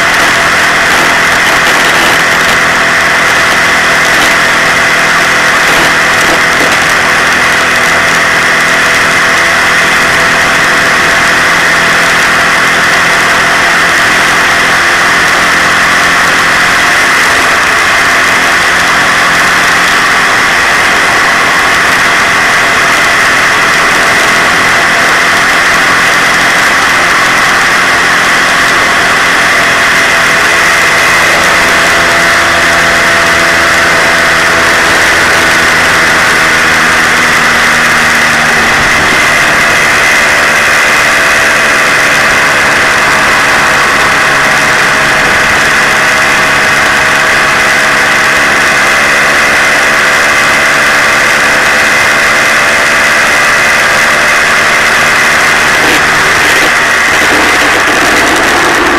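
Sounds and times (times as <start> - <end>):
moped engine running: 0.0 - 58.9
steady rushing noise: 0.0 - 58.9.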